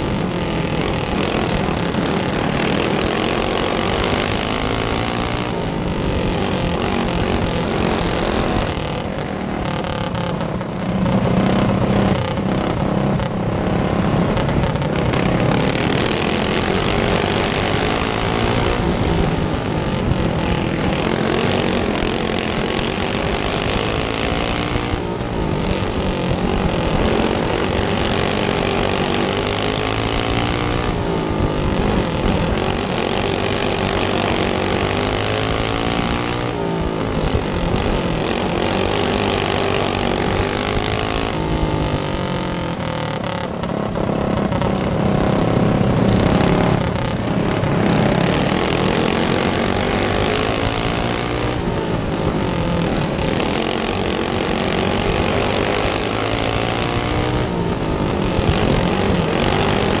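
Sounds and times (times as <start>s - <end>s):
go-kart engine revving: 0.0s - 60.0s.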